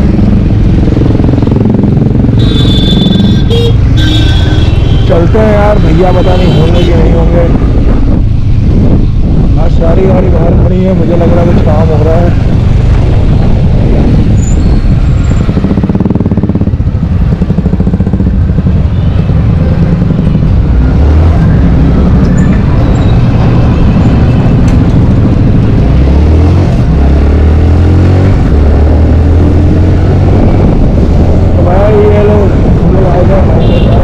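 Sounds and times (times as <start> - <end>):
motorcycle engine accelerating: 0.0 - 5.8, 7.0 - 33.4.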